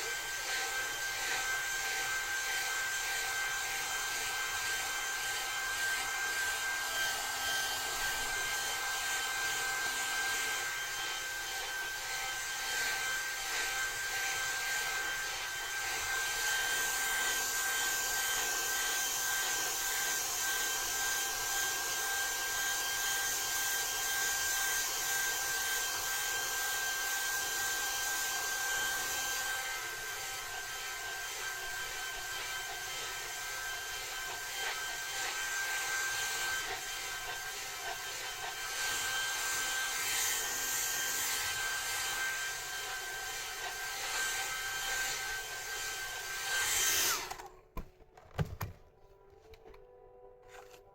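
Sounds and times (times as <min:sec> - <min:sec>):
hair dryer blowing: 0:00.0 - 0:47.6.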